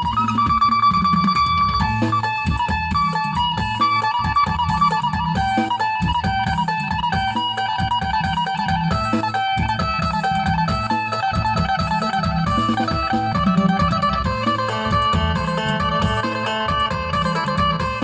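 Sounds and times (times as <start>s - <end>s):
plucked lute melody: 0.0s - 18.0s
steady low beat: 0.0s - 18.0s.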